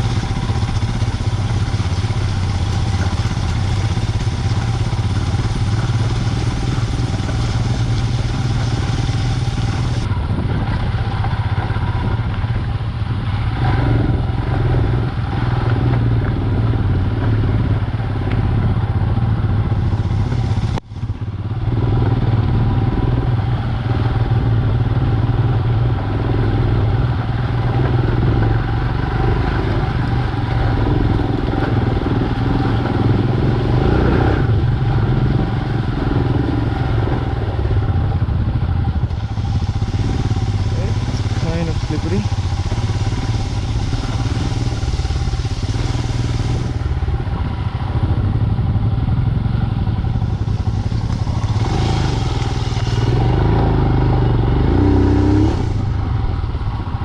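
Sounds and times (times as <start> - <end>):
motorcycle engine under load: 0.0 - 57.0.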